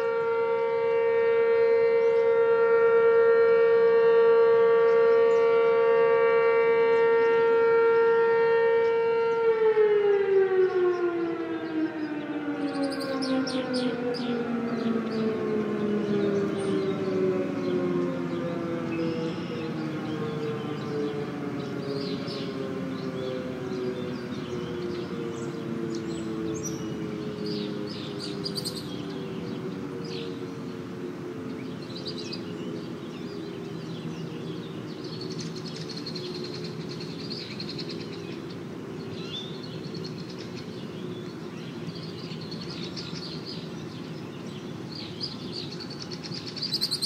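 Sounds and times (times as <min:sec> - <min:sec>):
warning siren winding down: 0:00.0 - 0:45.9
birds chirping: 0:00.0 - 0:47.0.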